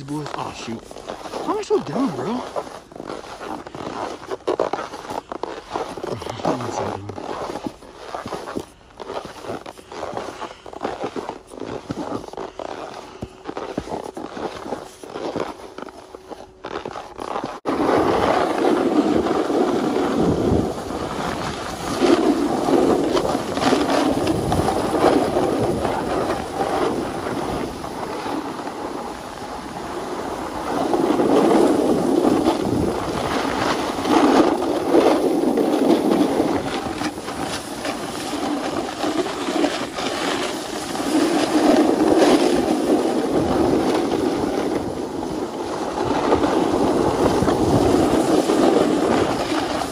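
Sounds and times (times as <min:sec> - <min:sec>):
snowboard scraping on snow: 0:00.0 - 0:49.9.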